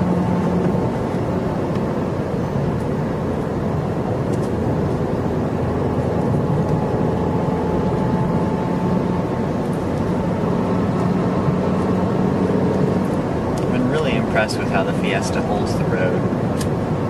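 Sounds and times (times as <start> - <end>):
car engine drone: 0.0 - 17.0
road and tyre noise: 0.0 - 17.0.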